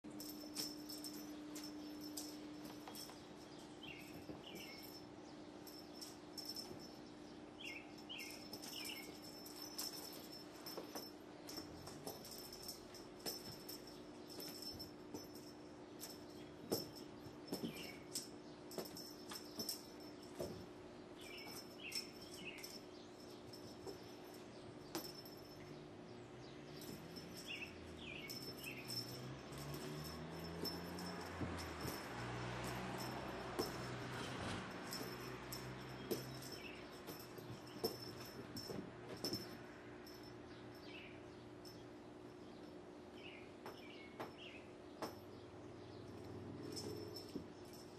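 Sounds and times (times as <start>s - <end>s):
steady low hum: 0.0s - 47.9s
cats playing with toy on carpet: 0.2s - 5.0s, 5.6s - 7.0s, 8.0s - 25.6s, 26.7s - 40.8s, 46.0s - 47.9s.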